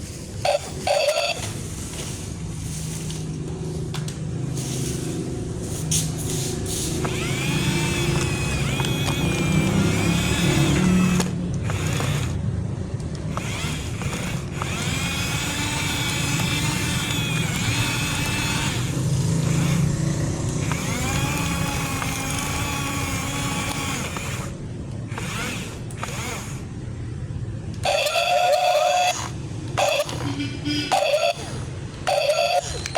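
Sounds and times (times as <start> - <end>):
motor whine: 4.0 - 12.4, 13.0 - 26.8, 27.7 - 32.9.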